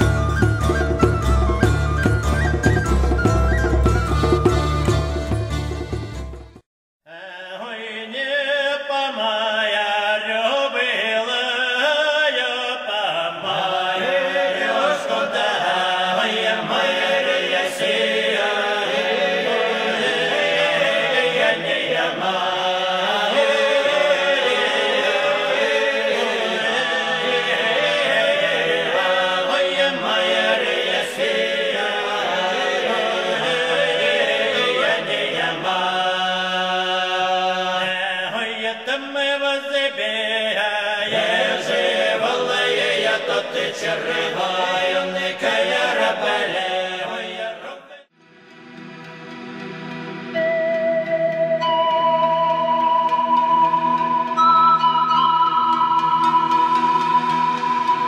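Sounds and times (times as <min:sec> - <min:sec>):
choir chanting: 0:07.1 - 0:58.0.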